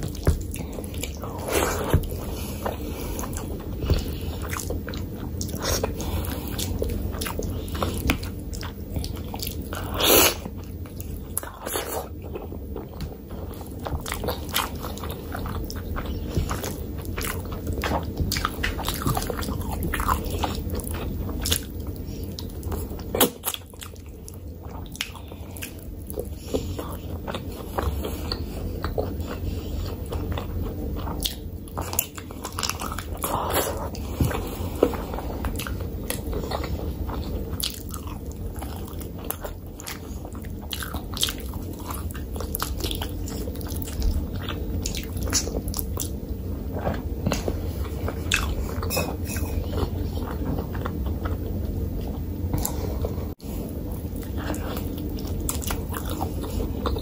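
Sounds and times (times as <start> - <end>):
chewing: 0.0 - 57.0
steady low hum: 0.0 - 57.0.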